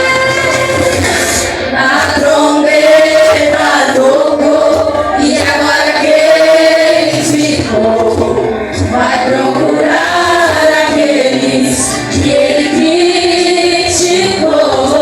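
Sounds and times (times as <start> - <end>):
band playing: 0.0 - 15.0
group singing in unison: 0.0 - 15.0.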